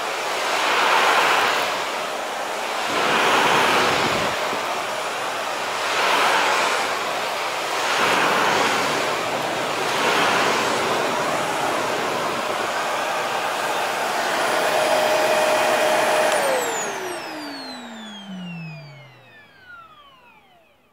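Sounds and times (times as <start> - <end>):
vacuum cleaner running: 0.0 - 20.9
vacuum motor winding down: 0.1 - 20.9.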